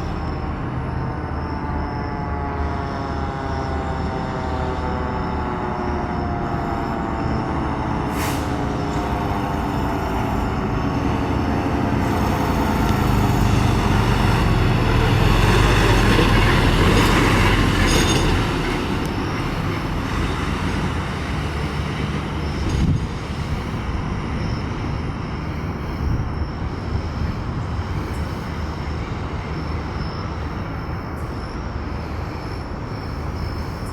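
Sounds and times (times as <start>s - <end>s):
fire engine mechanical siren: 0.0s - 33.9s
fire engine passing: 0.0s - 33.9s.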